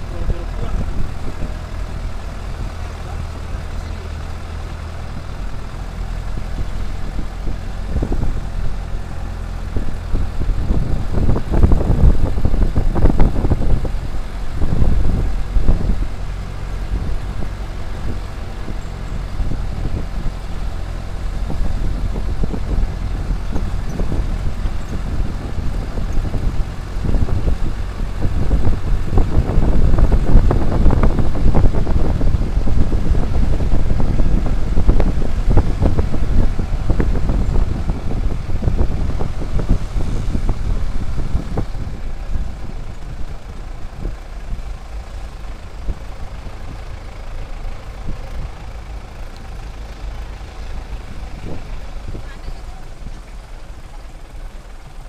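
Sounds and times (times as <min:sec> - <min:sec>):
engine rumble: 0:00.0 - 0:55.0
road and wind noise: 0:00.0 - 0:55.0.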